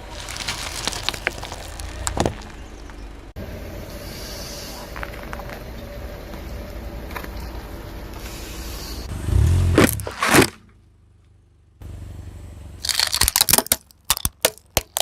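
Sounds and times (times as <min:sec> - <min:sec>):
car rumbling slowly: 0:00.0 - 0:15.0.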